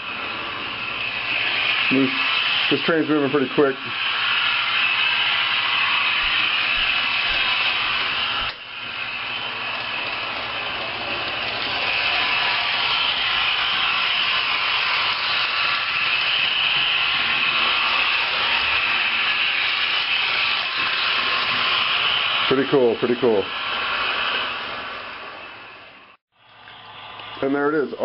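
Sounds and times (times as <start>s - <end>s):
model train rushing on track: 0.0s - 28.0s.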